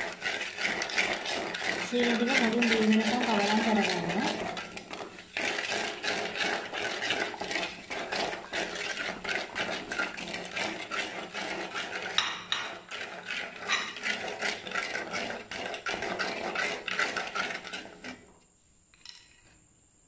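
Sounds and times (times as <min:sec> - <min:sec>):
ladle scraping a clay pot: 0:00.0 - 0:18.4.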